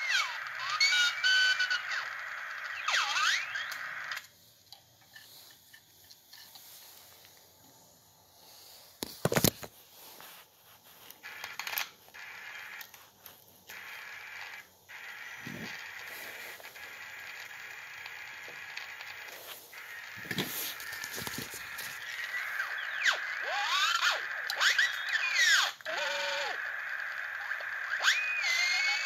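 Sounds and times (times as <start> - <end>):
radio receiver hiss: 0.0 - 28.8.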